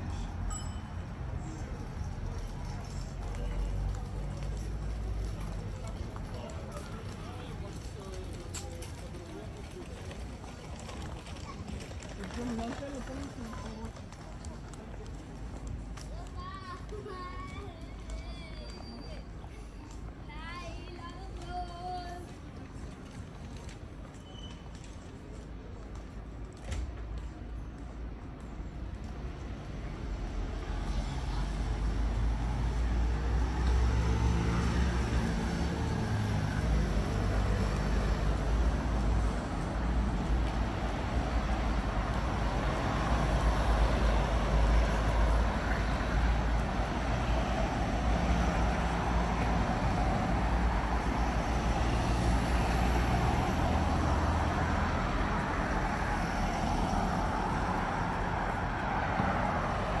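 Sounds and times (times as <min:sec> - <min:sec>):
vehicles passing: 0:00.0 - 1:00.0.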